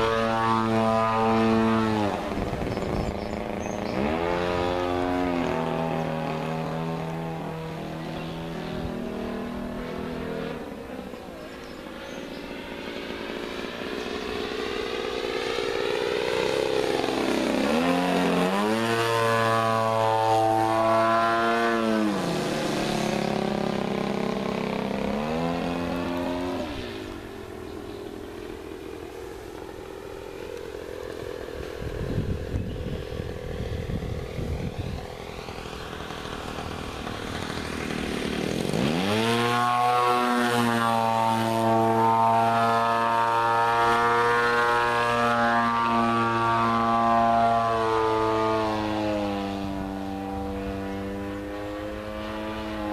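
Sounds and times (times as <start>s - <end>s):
model airplane motor and propeller: 0.0s - 52.9s.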